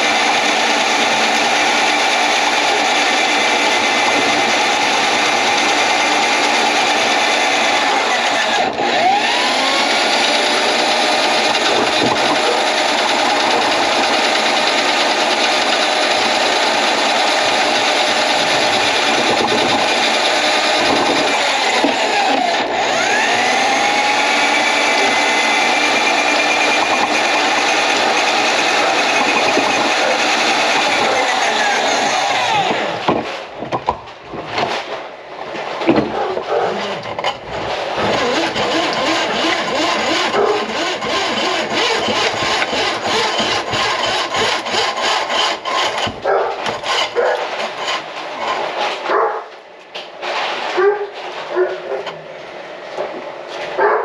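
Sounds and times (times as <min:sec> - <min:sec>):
drain cleaning machine motor whine: 0:00.0 - 0:33.6, 0:36.9 - 0:48.6.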